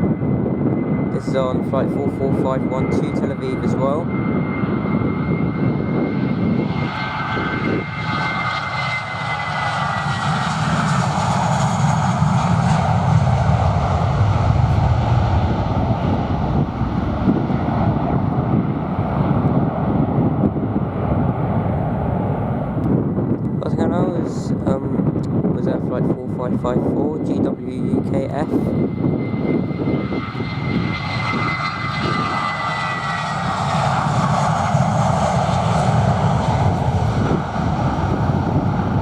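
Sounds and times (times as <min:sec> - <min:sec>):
airliner jet engines passing: 0:00.0 - 0:39.0.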